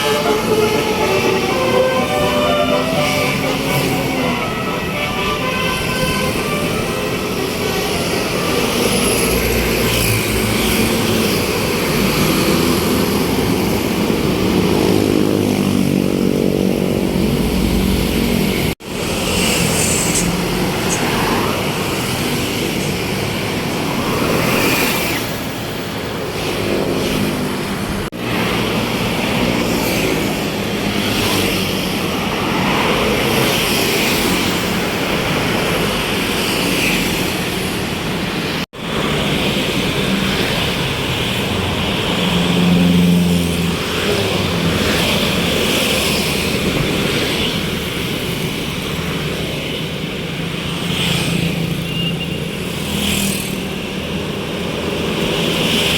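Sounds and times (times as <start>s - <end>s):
bus engines rumbling past: 0.0s - 55.9s.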